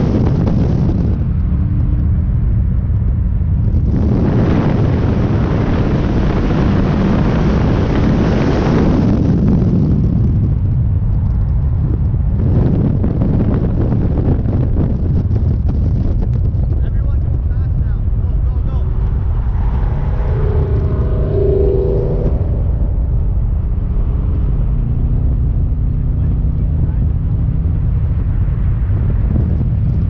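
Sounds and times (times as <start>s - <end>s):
cars driving at highway speed: 0.0s - 30.0s
wind rushing on microphone: 0.0s - 30.0s.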